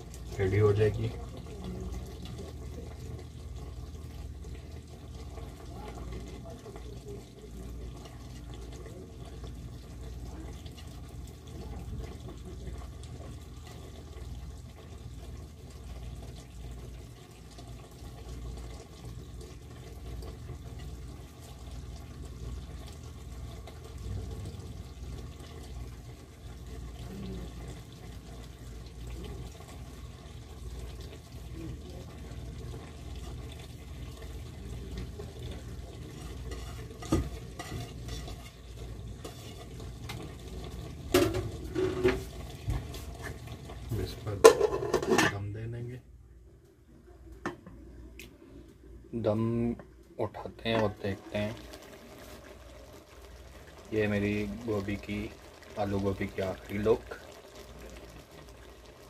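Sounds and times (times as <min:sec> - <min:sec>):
pot cooking on gas stove: 0:00.0 - 0:59.0.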